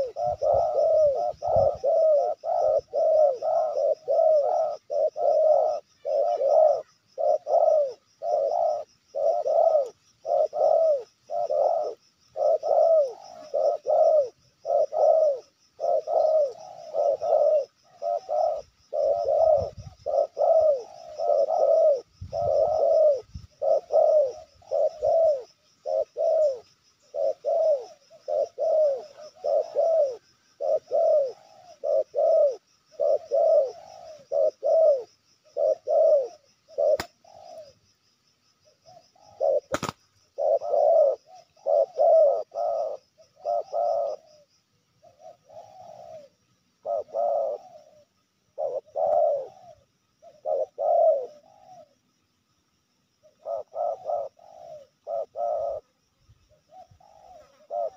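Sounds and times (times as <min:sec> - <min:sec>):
dove cooing: 0:00.0 - 0:52.3, 0:53.1 - 0:57.9.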